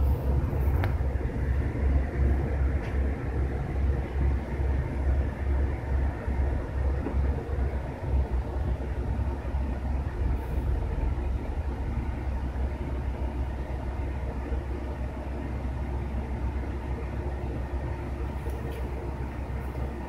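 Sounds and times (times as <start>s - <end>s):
low mechanical rumble: 0.0s - 20.0s.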